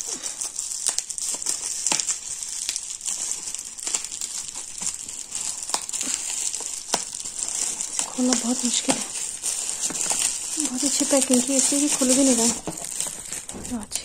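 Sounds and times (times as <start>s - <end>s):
bubble wrap crinkling and crackling: 0.0s - 14.0s.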